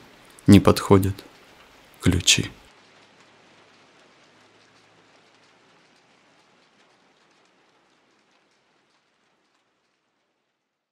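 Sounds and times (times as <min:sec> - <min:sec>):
faint steady rain: 0:00.0 - 0:10.9.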